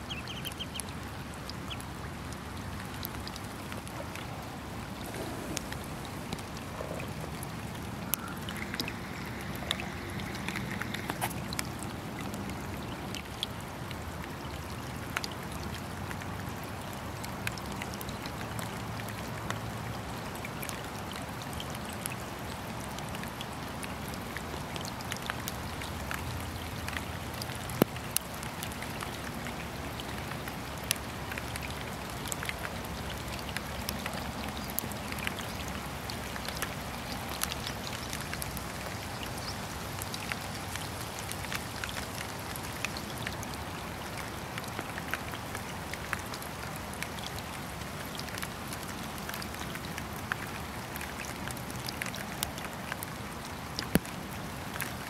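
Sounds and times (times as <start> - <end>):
raindrops ticking close by: 0.0 - 55.0
steady rain falling: 0.0 - 55.0.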